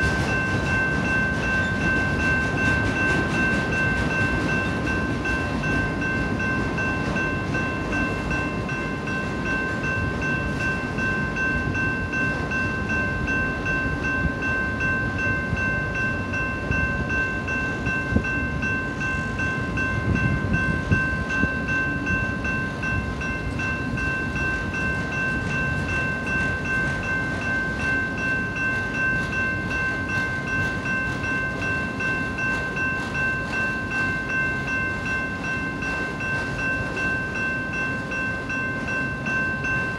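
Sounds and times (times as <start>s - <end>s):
crossing warning bell ringing: 0.0s - 39.9s
train knocks: 0.0s - 39.9s
train wheels rumbling on rail: 0.0s - 39.9s.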